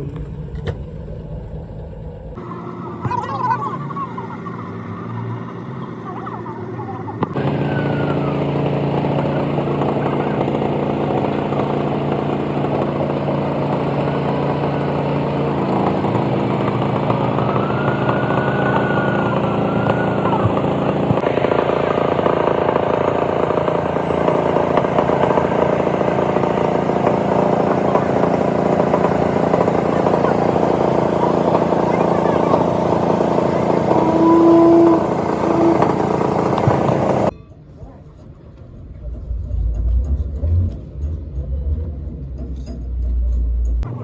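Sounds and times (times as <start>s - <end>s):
engine running steadily: 2.3s - 37.3s, 38.8s - 44.0s.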